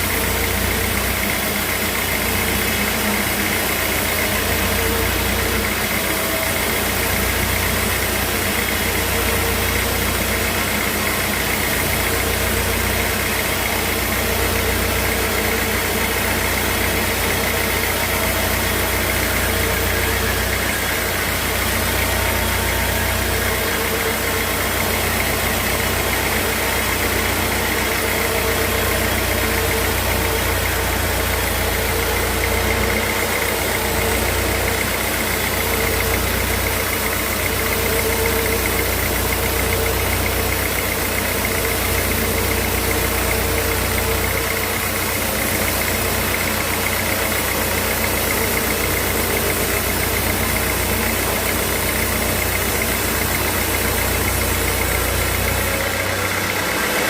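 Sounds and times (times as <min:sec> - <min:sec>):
sawmill machinery humming: 0:00.0 - 0:57.0
steady machine whine: 0:00.0 - 0:57.0.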